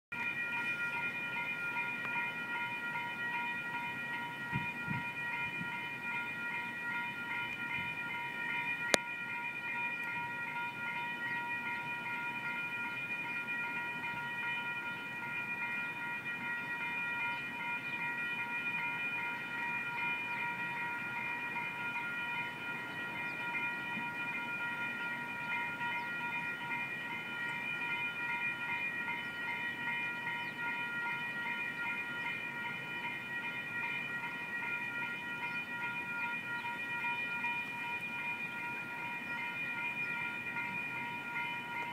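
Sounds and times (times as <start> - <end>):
crossing warning bell ringing: 0.1 - 41.9.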